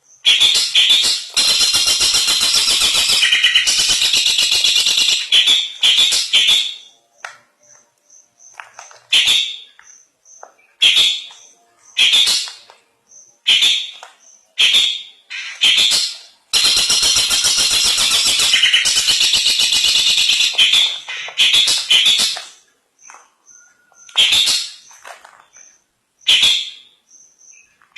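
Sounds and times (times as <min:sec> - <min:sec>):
bird harsh chattering song: 0:00.0 - 0:07.0, 0:07.6 - 0:27.8.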